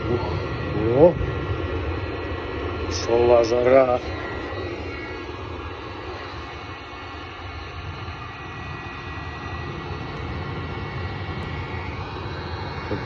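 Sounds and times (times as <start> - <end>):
heat gun fan blowing: 0.0 - 13.0.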